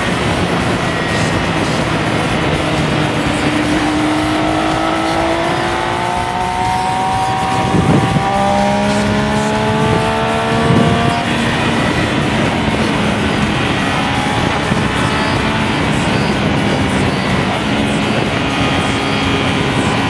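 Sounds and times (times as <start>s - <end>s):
heavy wind noise: 0.0s - 20.0s
motorcycle engine pulling under load: 0.0s - 20.0s.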